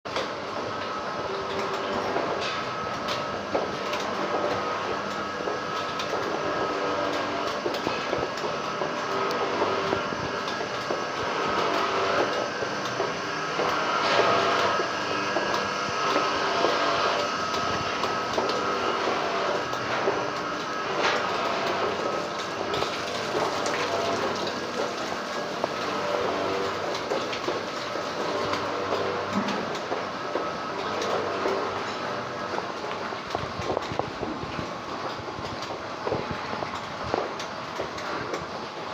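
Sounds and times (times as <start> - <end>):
machinery rattling clatter: 0.1 - 38.9
machinery whining tone: 0.1 - 38.9.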